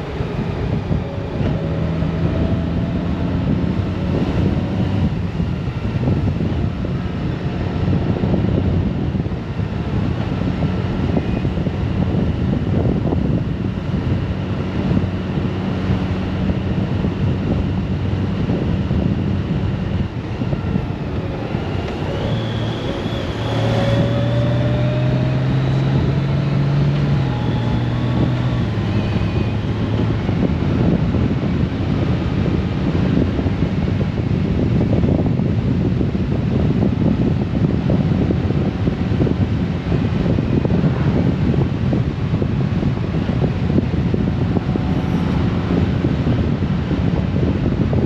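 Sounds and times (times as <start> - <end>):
deep hum with rising whine: 0.0 - 48.0
motorcycle engine and road noise: 0.0 - 48.0
wind over microphone: 0.0 - 48.0.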